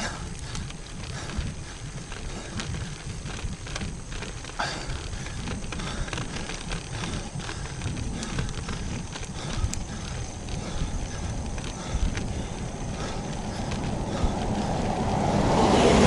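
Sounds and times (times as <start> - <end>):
bike clicks and rattles: 0.0 - 16.0
wind and road rumble: 0.0 - 16.0.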